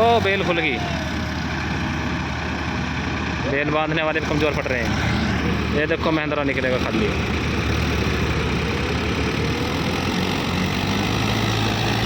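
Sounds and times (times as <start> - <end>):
diesel tractor engines running: 0.0 - 12.0.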